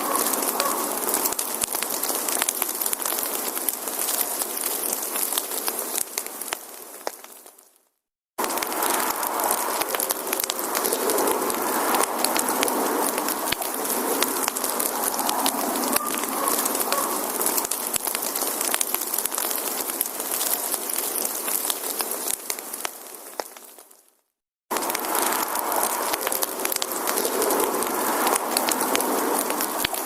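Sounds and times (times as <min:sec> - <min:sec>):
campfire crackling and popping: 0:00.0 - 0:07.8, 0:08.4 - 0:30.0.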